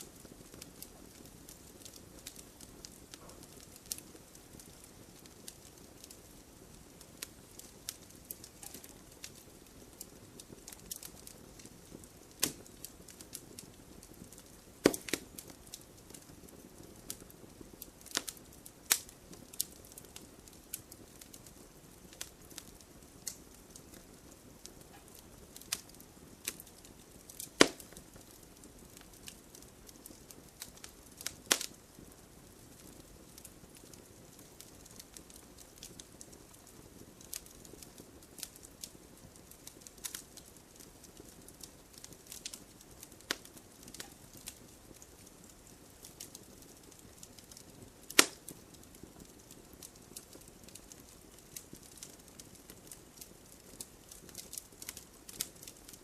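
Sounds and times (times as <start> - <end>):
campfire hissing: 0.0 - 56.0
fire crackling and popping: 0.0 - 56.0.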